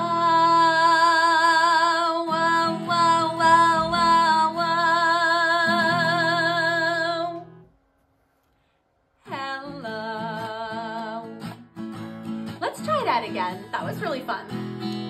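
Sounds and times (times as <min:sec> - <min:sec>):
strummed acoustic guitar: 0:00.0 - 0:07.6, 0:09.3 - 0:15.0.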